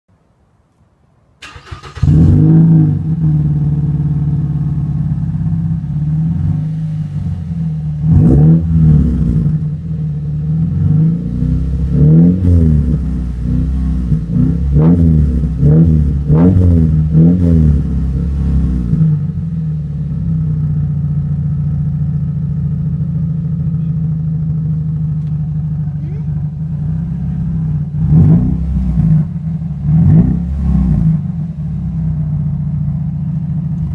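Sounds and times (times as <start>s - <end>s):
car engine idling and revving: 1.4s - 33.9s.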